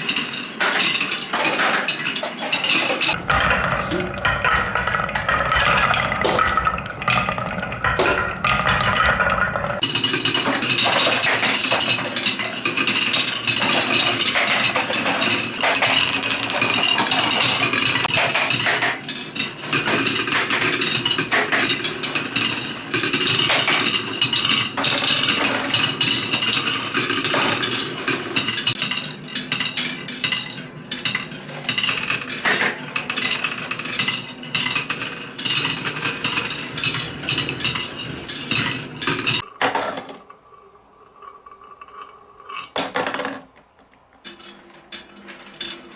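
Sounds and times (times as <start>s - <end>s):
marbles rolling and clattering: 0.0s - 45.9s.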